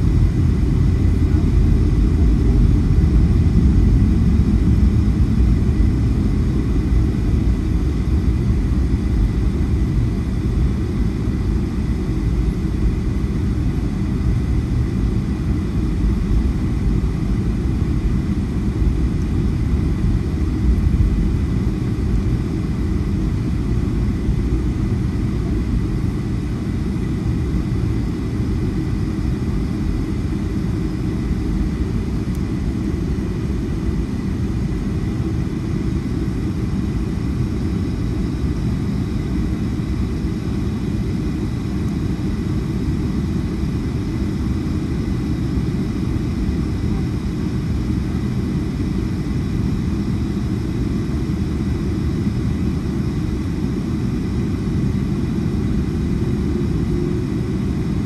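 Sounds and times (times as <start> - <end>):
faint high whine: 0.0 - 58.0
jet engines rumbling: 0.0 - 58.0.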